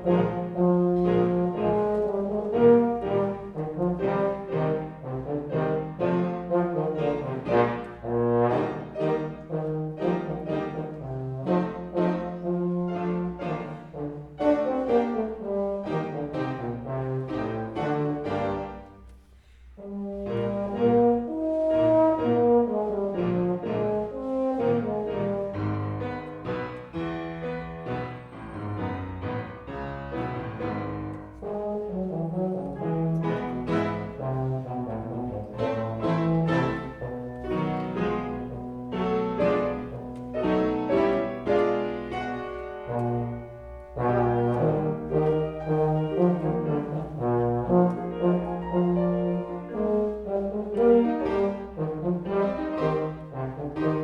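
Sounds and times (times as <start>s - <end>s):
trombone playing slow tune: 0.0s - 19.0s, 19.8s - 28.1s, 28.8s - 54.0s
piano accompaniment: 0.0s - 54.0s.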